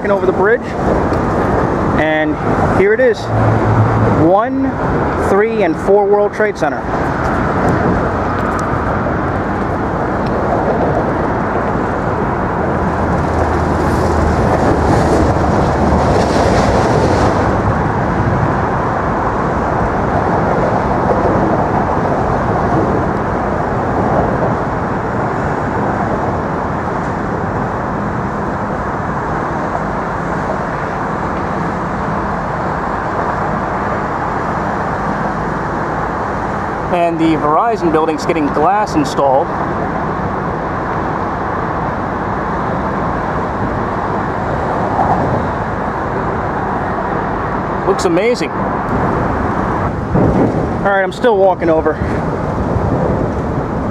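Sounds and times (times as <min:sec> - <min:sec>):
subway train rumbling and rattling: 0:00.0 - 0:05.2, 0:06.6 - 0:53.9.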